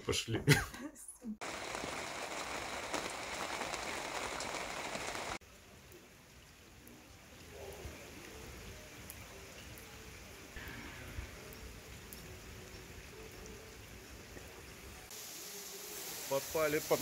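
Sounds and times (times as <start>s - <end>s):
light rain outdoors: 0.0s - 17.0s
rain on a window pane: 1.4s - 15.2s.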